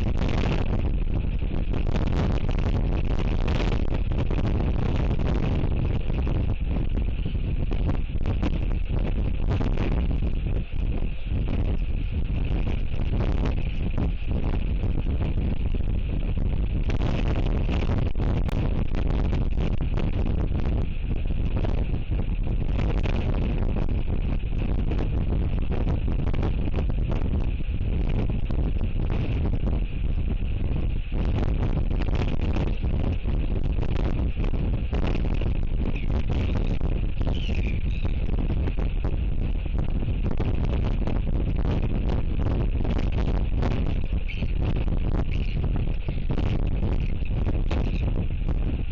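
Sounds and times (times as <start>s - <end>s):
strong wind buffeting microphone: 0.0s - 48.9s.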